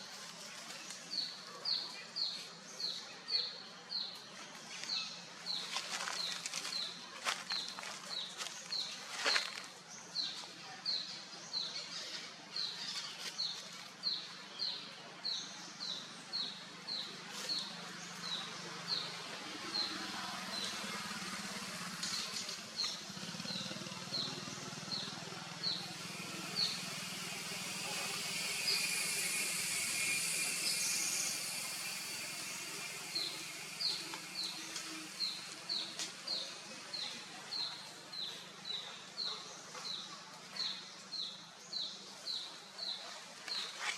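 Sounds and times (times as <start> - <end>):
outdoor background noise: 0.0 - 43.9.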